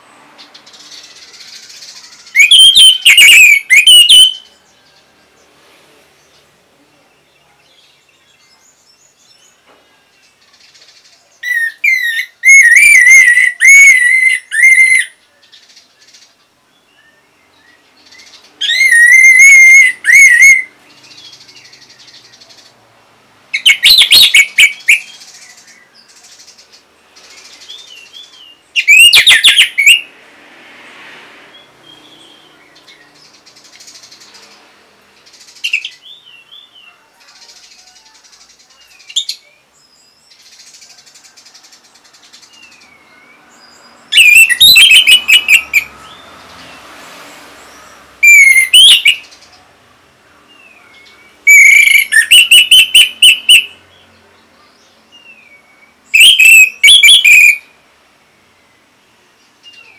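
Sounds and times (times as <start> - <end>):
soft bird chirps: 0.0 - 22.9, 23.6 - 30.1, 30.8 - 59.9.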